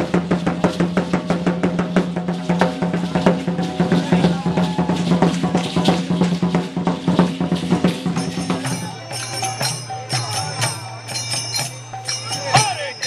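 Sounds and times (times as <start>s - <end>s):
hand cymbals clashing: 0.0s - 13.0s
parade drumming: 0.0s - 13.0s
two-headed hand drum: 0.0s - 13.0s.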